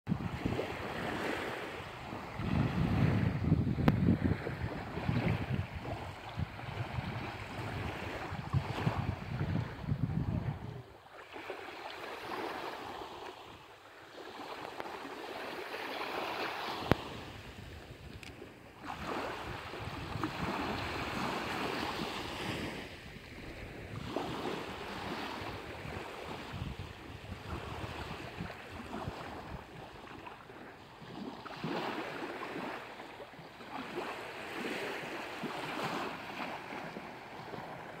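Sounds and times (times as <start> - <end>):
small waves lapping on beach: 0.1 - 38.0.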